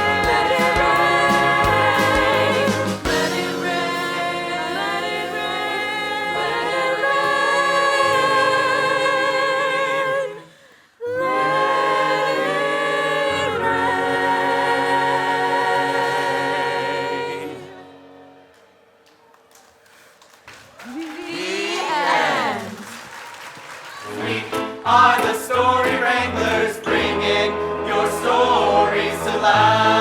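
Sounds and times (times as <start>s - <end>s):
voices singing together: 0.0s - 18.0s, 21.3s - 22.8s, 24.0s - 30.0s.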